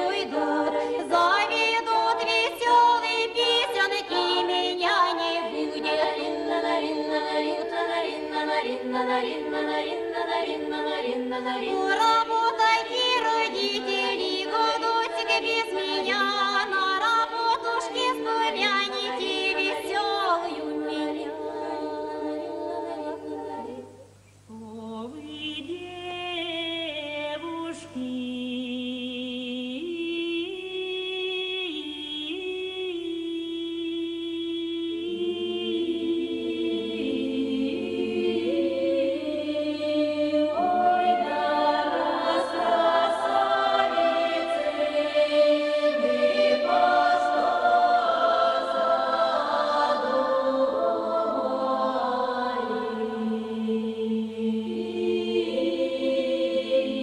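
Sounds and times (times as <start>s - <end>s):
choir singing: 0.0s - 25.8s, 31.6s - 57.0s.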